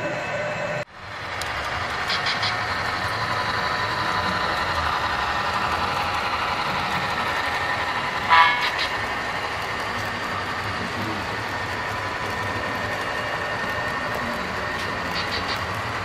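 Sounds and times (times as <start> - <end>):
model diesel locomotive passing: 0.0 - 16.0.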